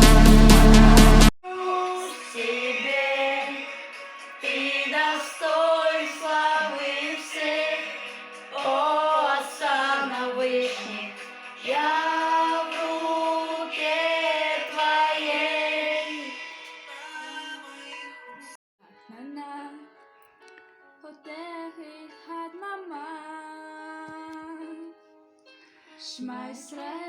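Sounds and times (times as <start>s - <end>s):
woman singing: 1.4s - 3.8s, 4.4s - 20.0s, 21.0s - 25.0s, 26.0s - 27.0s.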